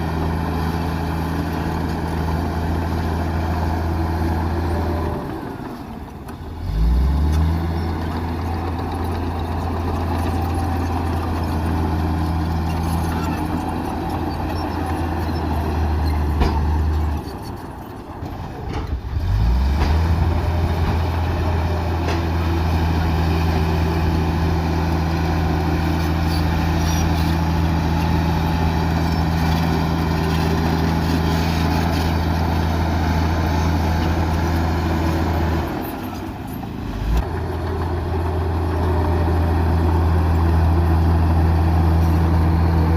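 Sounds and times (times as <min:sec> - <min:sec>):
bulldozer diesel engine revving: 0:00.0 - 0:42.9.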